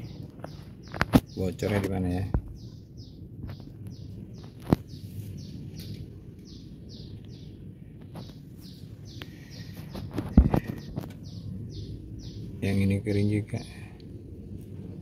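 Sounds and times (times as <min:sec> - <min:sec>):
bird chirping: 0:00.0 - 0:13.8
low background rumble: 0:00.0 - 0:15.0.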